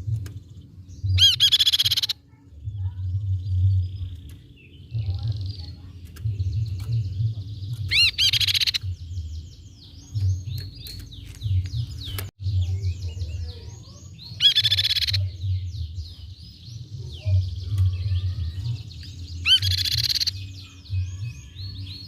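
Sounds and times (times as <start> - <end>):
bird chirping and trilling: 0.0 - 22.0
low pulsing hum: 0.0 - 22.0.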